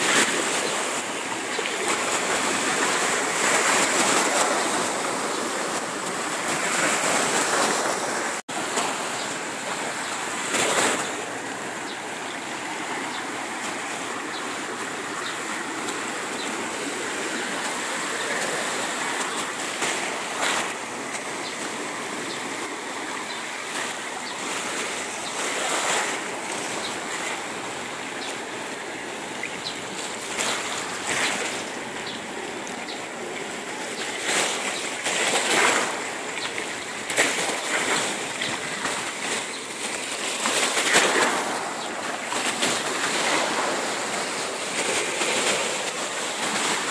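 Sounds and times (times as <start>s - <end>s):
waves washing onto pebble beach: 0.0s - 46.9s.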